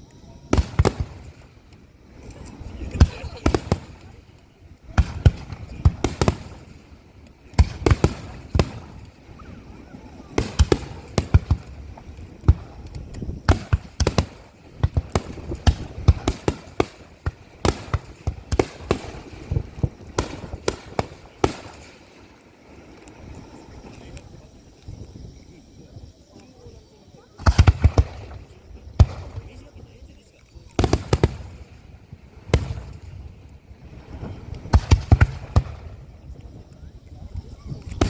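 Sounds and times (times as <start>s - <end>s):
fireworks bursting with sharp bangs: 0.0s - 25.3s, 26.3s - 38.0s.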